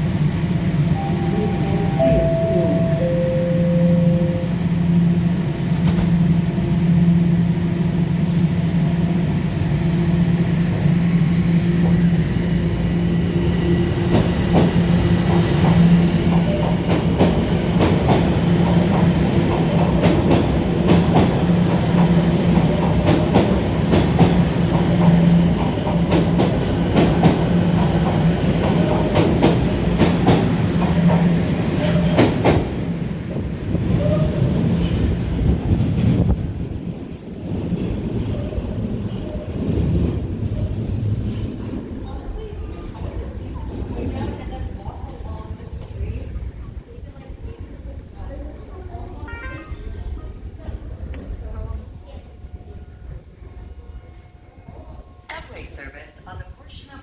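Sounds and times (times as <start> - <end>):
subway train electric hum: 0.0 - 57.0.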